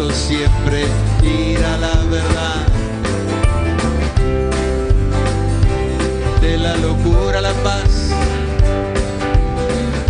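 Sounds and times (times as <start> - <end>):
acoustic guitar: 0.0 - 10.0
bass: 0.0 - 10.0.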